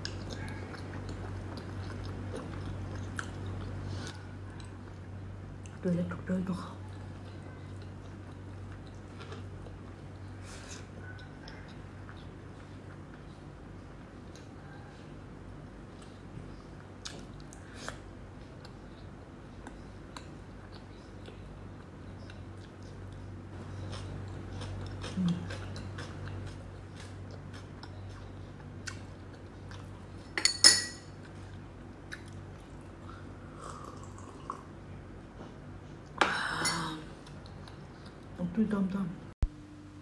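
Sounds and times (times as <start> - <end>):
person chewing food: 0.0 - 5.8, 6.9 - 15.2, 15.8 - 30.4, 31.1 - 34.7, 37.1 - 38.4.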